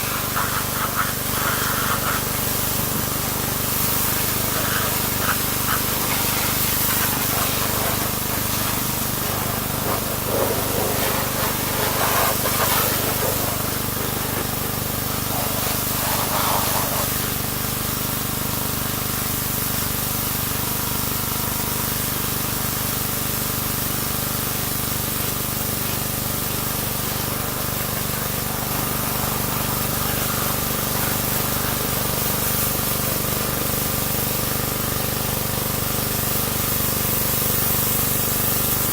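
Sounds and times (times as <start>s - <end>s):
pressure washer spraying: 0.0s - 20.4s, 21.0s - 38.9s
pressure washer motor hum: 0.0s - 38.9s.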